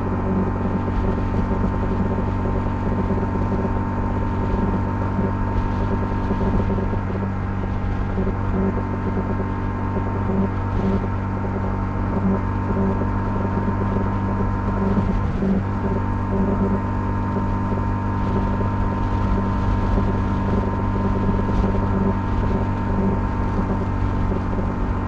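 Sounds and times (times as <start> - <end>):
motorcycle engine cruising: 0.0 - 25.0
road and wind rush: 0.0 - 25.0.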